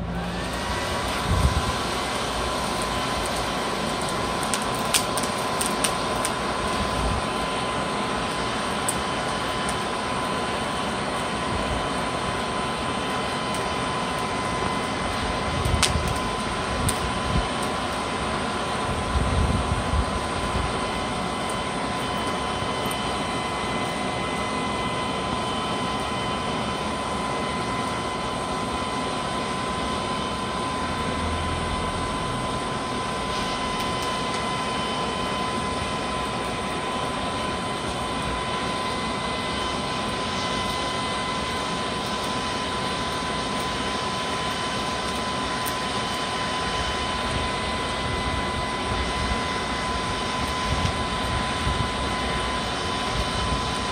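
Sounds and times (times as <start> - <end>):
hairdryer blowing air into forge: 0.0 - 53.9.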